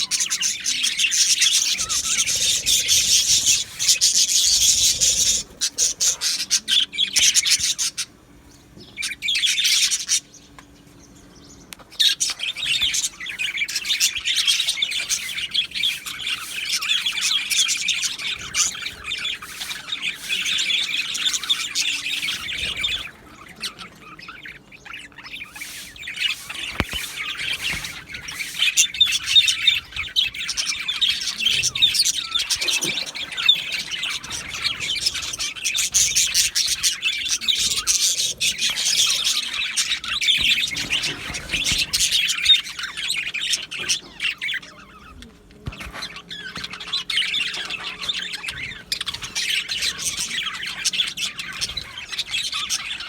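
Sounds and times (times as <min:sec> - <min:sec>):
budgerigars chattering: 0:00.0 - 0:08.2, 0:08.8 - 0:53.0.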